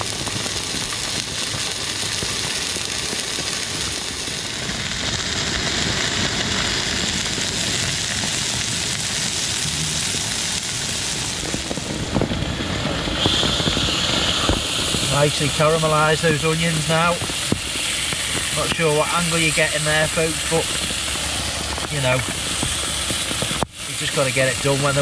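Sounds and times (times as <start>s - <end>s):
meat and onions sizzling in pan: 0.0s - 25.0s.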